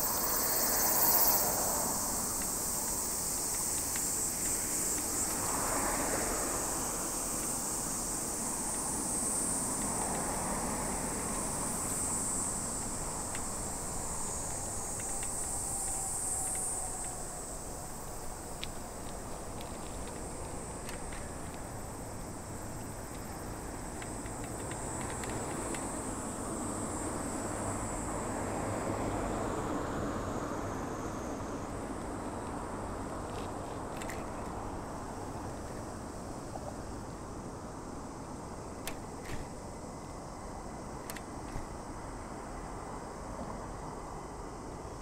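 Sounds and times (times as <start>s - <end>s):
insects chirring: 0.0s - 45.0s
road and wind noise: 0.0s - 45.0s.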